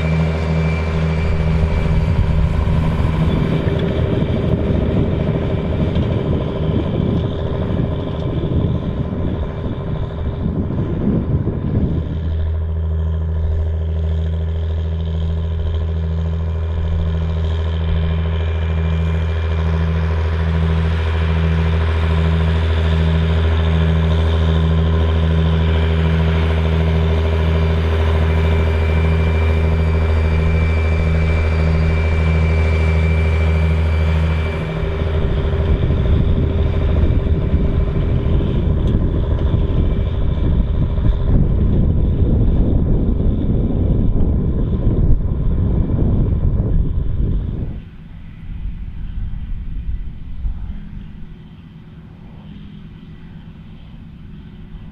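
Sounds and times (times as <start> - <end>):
tractor engine droning: 0.0 - 54.9.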